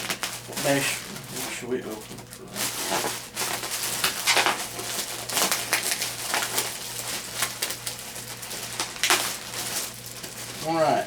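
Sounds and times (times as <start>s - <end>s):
plastic bags rustling and crinkling: 0.0s - 11.0s.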